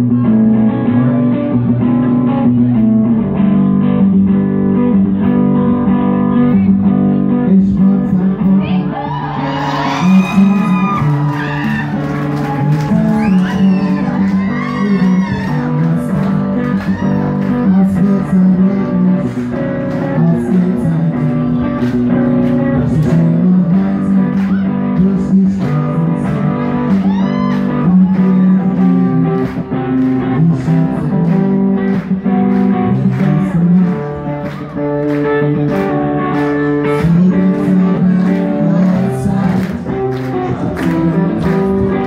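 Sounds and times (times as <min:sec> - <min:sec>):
live band playing: 0:00.9 - 0:42.0.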